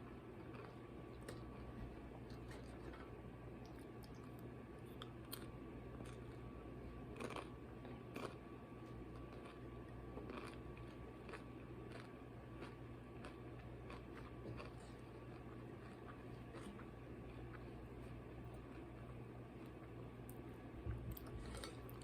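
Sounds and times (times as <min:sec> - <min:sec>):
steady low hum: 0:00.0 - 0:22.0
person chewing: 0:00.4 - 0:06.5, 0:07.1 - 0:20.4, 0:21.1 - 0:22.0.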